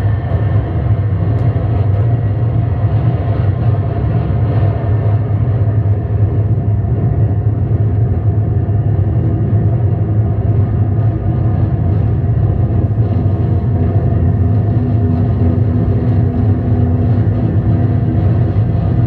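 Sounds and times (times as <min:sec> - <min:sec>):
droning electric guitar noise: 0:00.0 - 0:19.0.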